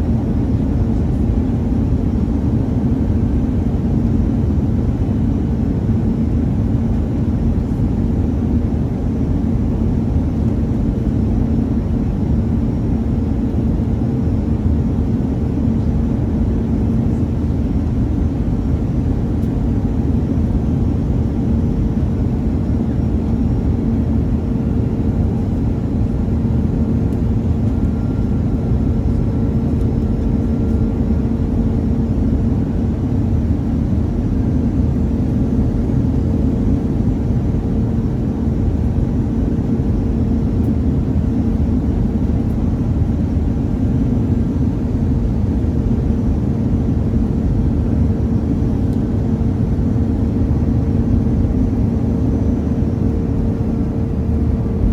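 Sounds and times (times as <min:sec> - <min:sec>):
airplane cabin engine rumble: 0:00.0 - 0:54.9
constant hum: 0:00.0 - 0:54.9.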